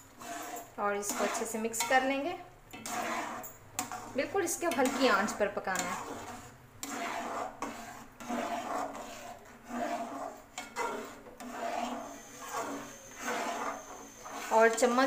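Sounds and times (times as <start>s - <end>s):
metal spatula scraping metal pan: 0.0s - 15.0s.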